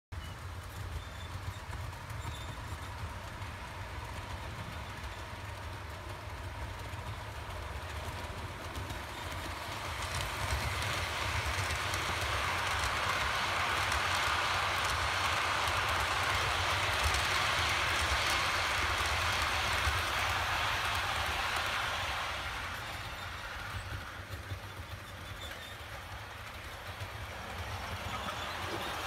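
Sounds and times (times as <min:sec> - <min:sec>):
model train running on track: 0:00.1 - 0:29.0.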